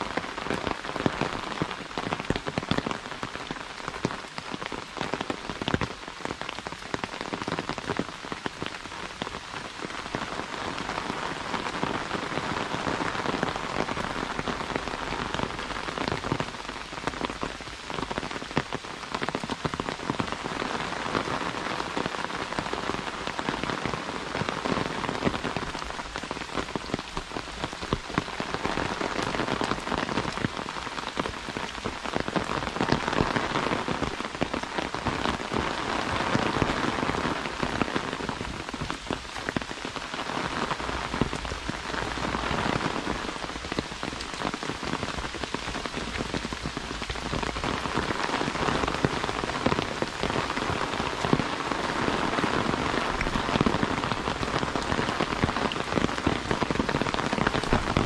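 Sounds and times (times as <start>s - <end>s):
heavy rain on an umbrella: 0.0s - 58.0s.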